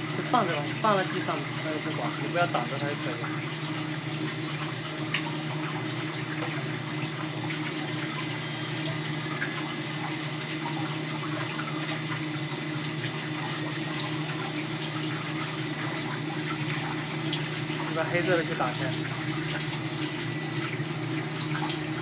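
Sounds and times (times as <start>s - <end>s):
water spraying and splashing: 0.0s - 22.0s.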